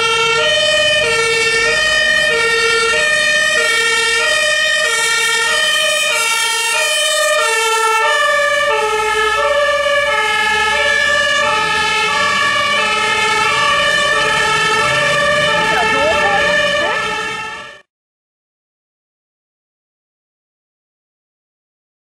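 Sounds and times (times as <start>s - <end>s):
two-tone fire truck siren: 0.0s - 17.9s.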